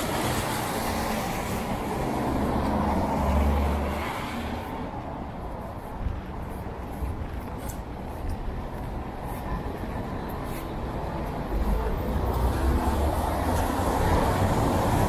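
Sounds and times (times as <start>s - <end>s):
tyres swishing on wet road: 0.0s - 15.0s.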